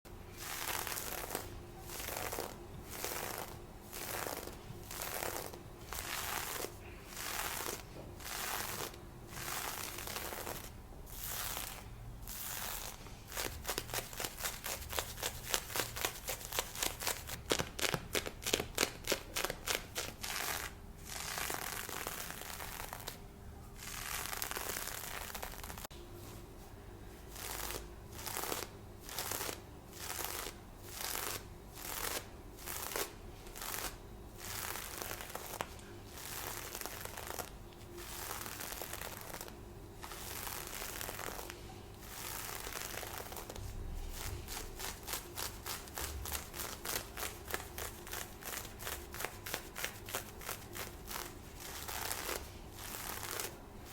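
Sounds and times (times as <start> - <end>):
scratching on fishnet stockings: 0.1 - 23.2, 23.8 - 53.9.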